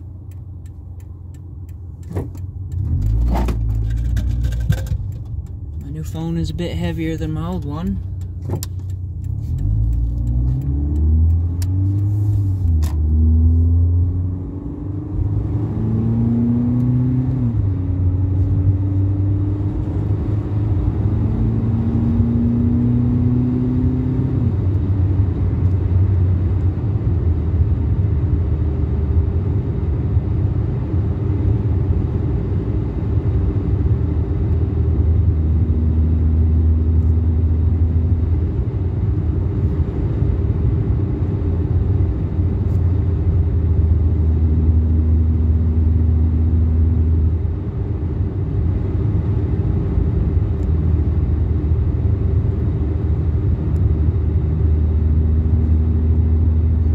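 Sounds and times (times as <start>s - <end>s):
car engine accelerating: 0.0s - 56.9s.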